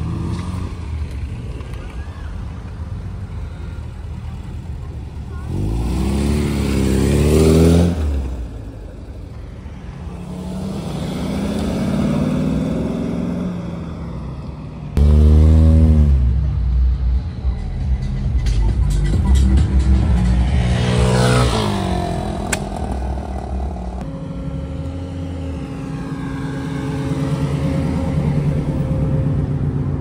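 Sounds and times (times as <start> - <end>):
car engines accelerating: 0.0 - 30.0.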